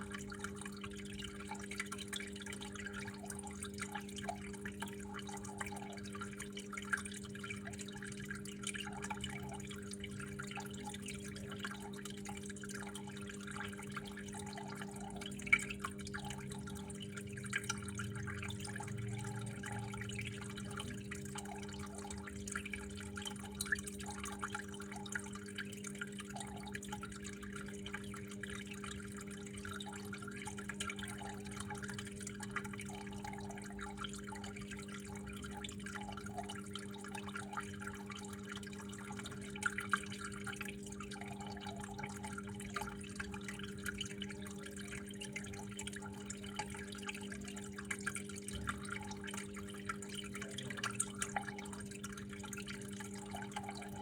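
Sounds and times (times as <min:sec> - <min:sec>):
low even hum: 0:00.0 - 0:54.0
water dripping and trickling: 0:00.0 - 0:54.0.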